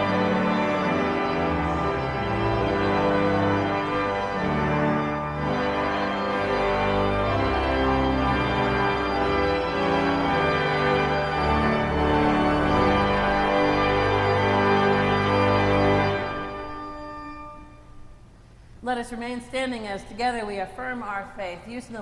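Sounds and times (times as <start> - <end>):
organ playing full chords: 0.0 - 18.4.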